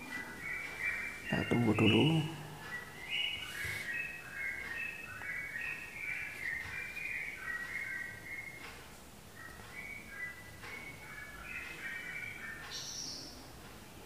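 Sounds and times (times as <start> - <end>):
high whistled bird chirps: 0.0 - 8.6, 9.3 - 13.4.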